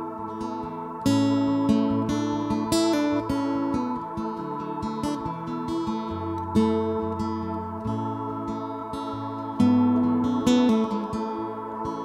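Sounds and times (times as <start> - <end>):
acoustic guitar strumming: 0.0 - 12.0
ambient pad drone: 0.0 - 12.0.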